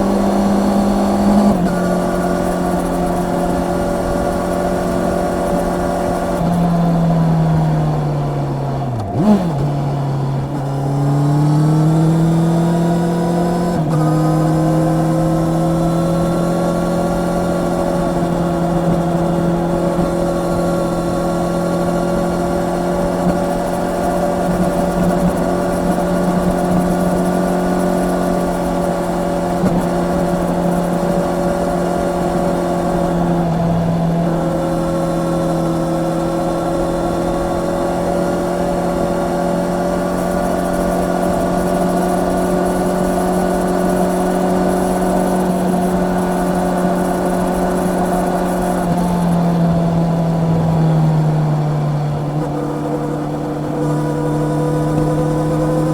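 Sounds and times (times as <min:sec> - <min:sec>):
motorcycle engine cruising: 0:00.0 - 0:55.9.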